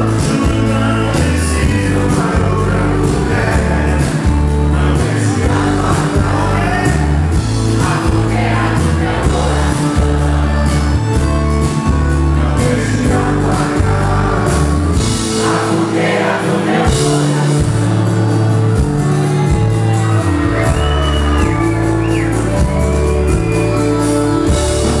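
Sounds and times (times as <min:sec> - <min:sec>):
crowd shouting and singing along: 0:00.0 - 0:25.0
live band playing with singing: 0:00.0 - 0:25.0.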